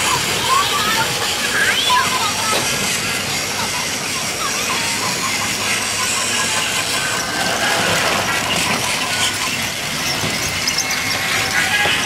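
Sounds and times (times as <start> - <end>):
toy train motors whirring: 0.0 - 12.0.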